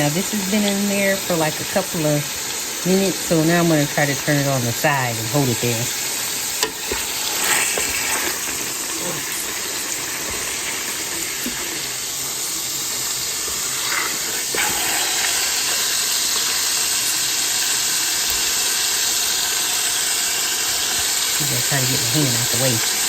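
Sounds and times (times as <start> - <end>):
grease popping: 0.0 - 23.0
meat sizzling in grease: 0.0 - 23.0.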